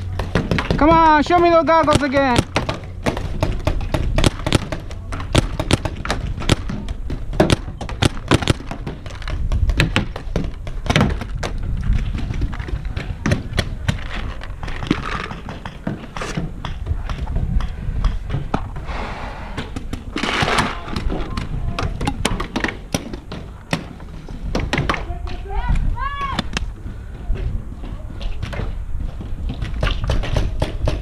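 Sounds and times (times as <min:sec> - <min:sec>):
steady low rumble: 0:00.0 - 0:29.7.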